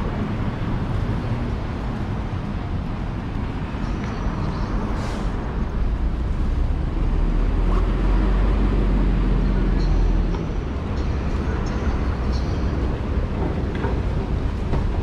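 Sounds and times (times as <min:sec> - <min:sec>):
city street traffic: 0:00.0 - 0:15.0
heavy vehicle engine rumble: 0:00.0 - 0:15.0.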